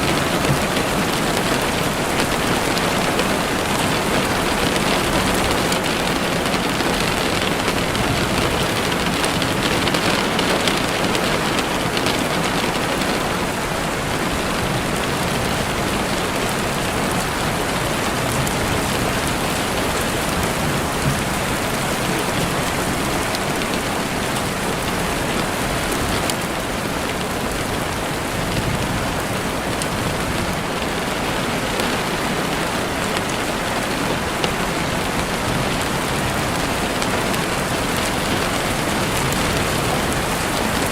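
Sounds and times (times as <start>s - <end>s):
heavy rain on a window: 0.0s - 40.9s.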